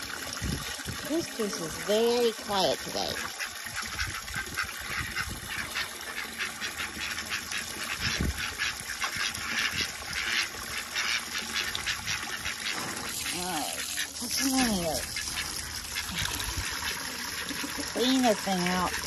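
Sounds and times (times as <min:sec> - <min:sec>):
hose splashing into water tub: 0:00.0 - 0:19.0
ducks quacking: 0:02.8 - 0:18.9.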